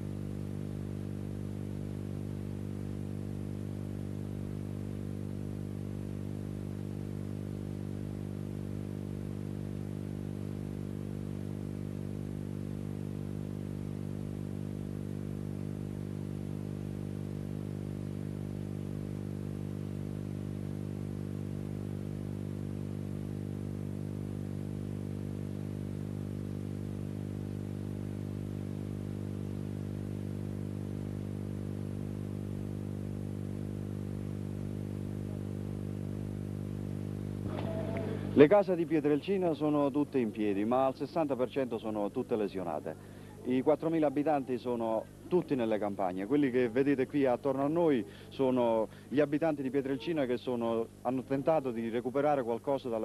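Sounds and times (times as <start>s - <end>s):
low electrical hum: 0.0s - 53.0s.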